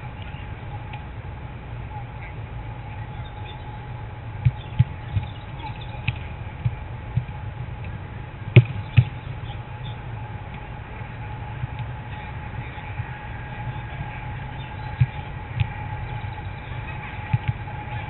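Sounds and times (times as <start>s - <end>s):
faint steady tone: 0.0s - 18.0s
low rumble: 0.0s - 18.0s.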